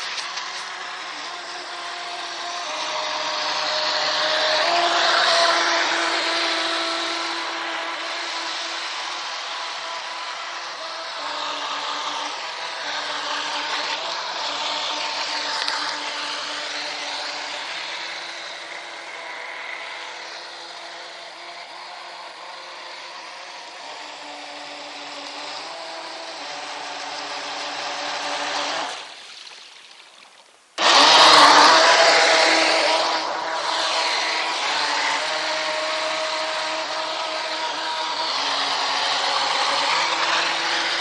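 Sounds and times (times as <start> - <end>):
model speedboat motor whining: 0.0 - 29.4, 30.2 - 41.0.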